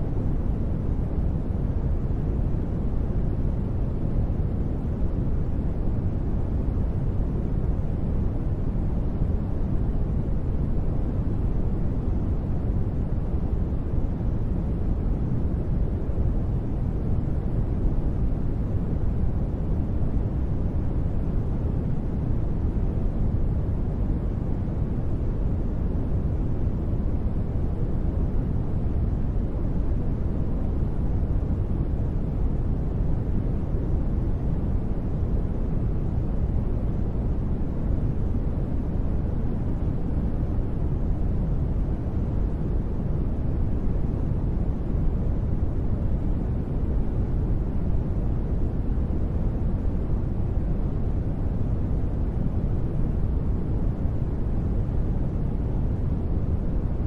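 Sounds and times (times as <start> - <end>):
deep soft rumble-hiss noise: 0.0 - 57.0.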